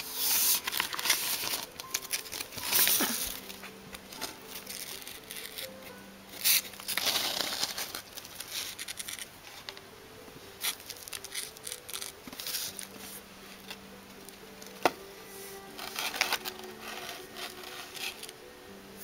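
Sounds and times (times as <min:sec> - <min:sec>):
plastic sleeves crinkling: 0:00.0 - 0:09.8, 0:10.6 - 0:18.4.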